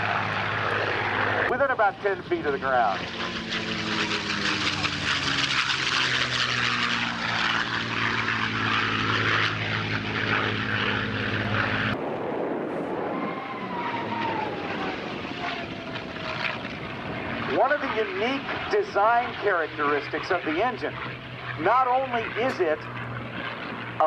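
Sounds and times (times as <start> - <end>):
rushing noise with falling whine: 0.0 - 20.9
propeller plane engine droning: 0.0 - 24.0.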